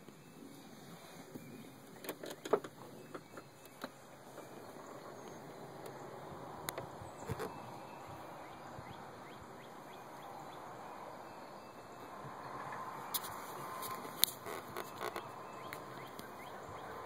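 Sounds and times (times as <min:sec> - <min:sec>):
distant bird chirps: 0:00.0 - 0:17.0
steady low hiss: 0:00.0 - 0:17.0.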